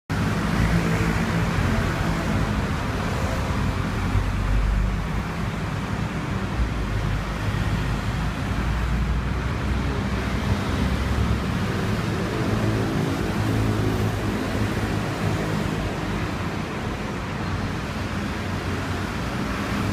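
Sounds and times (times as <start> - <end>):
traffic rumble: 0.1 - 19.9.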